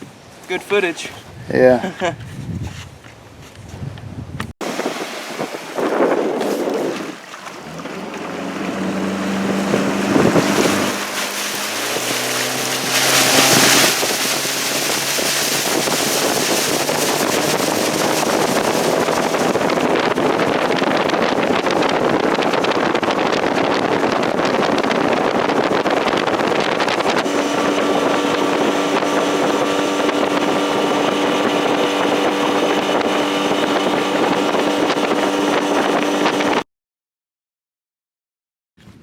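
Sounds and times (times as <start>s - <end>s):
wind noise on microphone: 1.0s - 36.6s, 38.8s - 39.0s
motorboat engine running: 4.6s - 36.6s.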